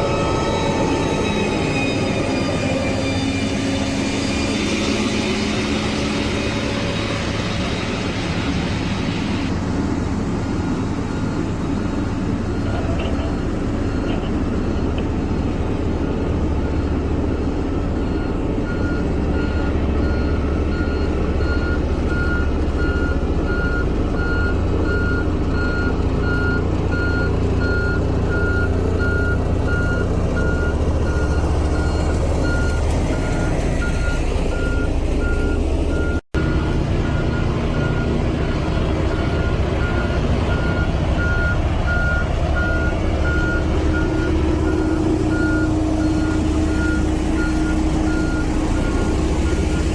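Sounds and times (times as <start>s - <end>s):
heavy machine engine running: 0.0s - 49.9s
reversing alarm beeping: 0.0s - 49.9s.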